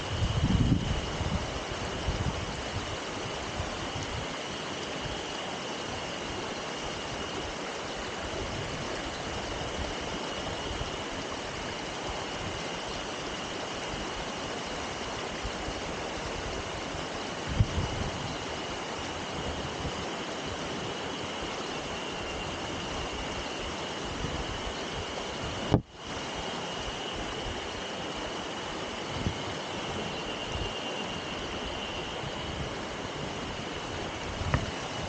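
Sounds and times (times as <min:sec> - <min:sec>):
low wind rumble on microphone: 0:00.0 - 0:35.0
mountain stream rushing: 0:00.0 - 0:35.0.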